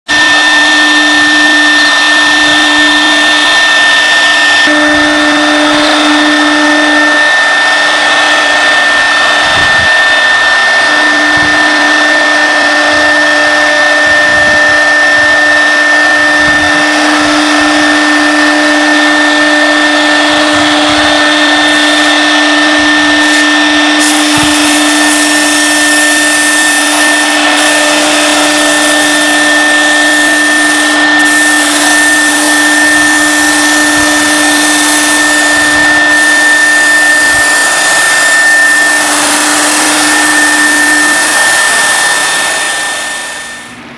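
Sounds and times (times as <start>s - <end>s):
router spindle whine: 0.0s - 43.9s
hiss of cutting: 0.1s - 43.9s.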